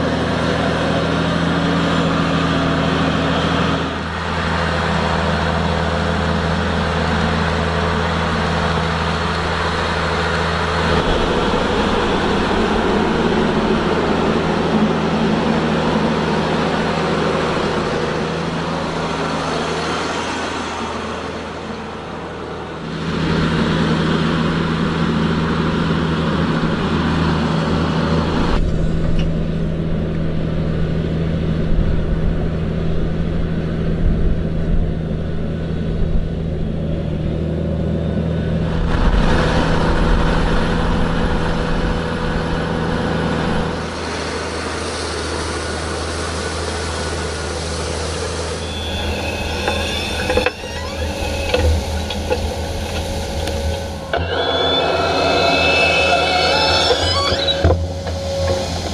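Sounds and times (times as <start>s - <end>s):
tractor engine running under load: 0.0s - 58.9s.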